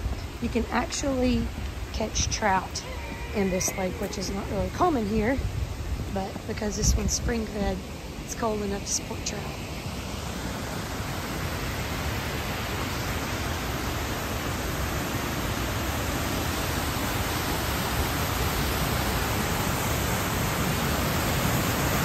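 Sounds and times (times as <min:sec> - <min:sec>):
water rushing over a spillway: 0:00.0 - 0:22.0.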